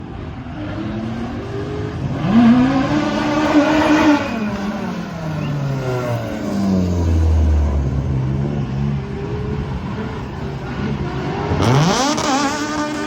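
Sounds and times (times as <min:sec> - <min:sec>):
race car engine accelerating: 0:00.5 - 0:13.0.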